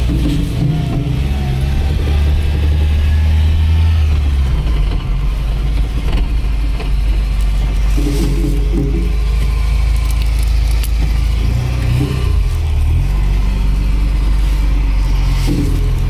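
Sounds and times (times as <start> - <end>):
car engine running from inside: 0.0 - 16.0.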